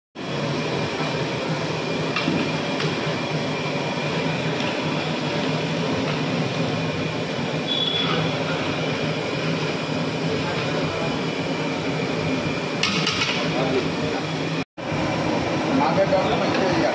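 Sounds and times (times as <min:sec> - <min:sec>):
gas burners rushing: 0:00.2 - 0:16.9.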